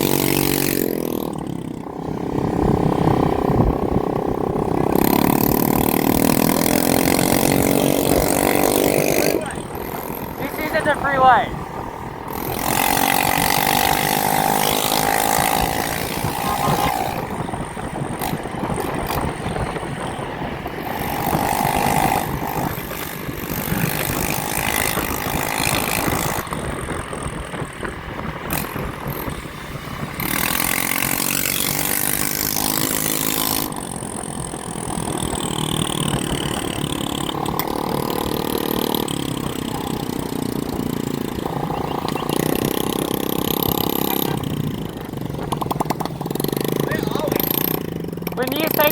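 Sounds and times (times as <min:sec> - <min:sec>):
motorbike engines revving: 0:00.0 - 0:48.9
road and wind noise: 0:00.0 - 0:48.9.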